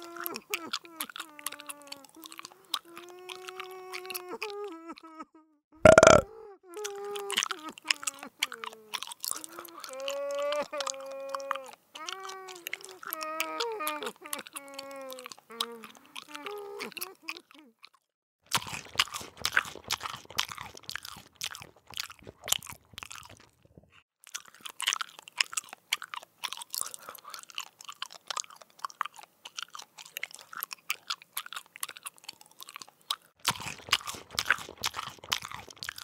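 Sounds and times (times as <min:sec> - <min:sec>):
insect crunching and chewing: 0:00.0 - 0:04.8, 0:05.9 - 0:36.0.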